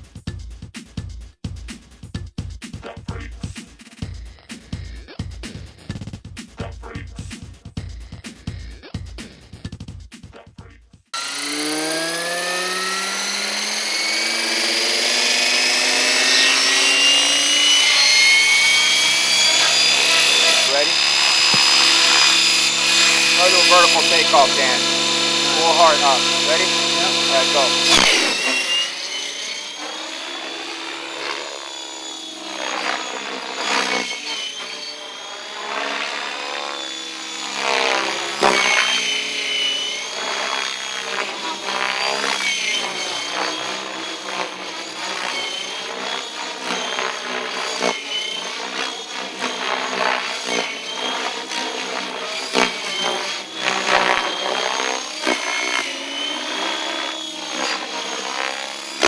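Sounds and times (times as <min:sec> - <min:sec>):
helicopter rotor sweeping pitch: 0:11.2 - 0:59.0
high motor whine: 0:11.2 - 0:59.0.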